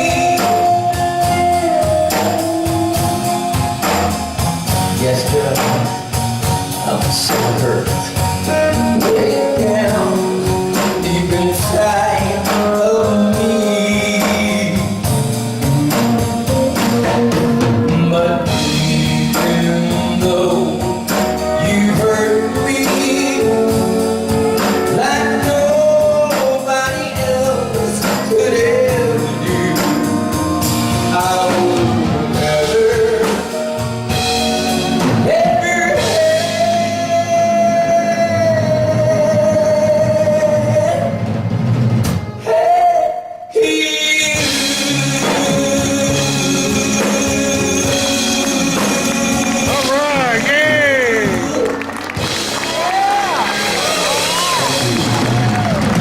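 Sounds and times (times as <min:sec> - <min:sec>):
man singing: 0:00.0 - 0:03.8, 0:04.6 - 0:41.4, 0:42.4 - 0:52.0
band playing: 0:00.0 - 0:56.0.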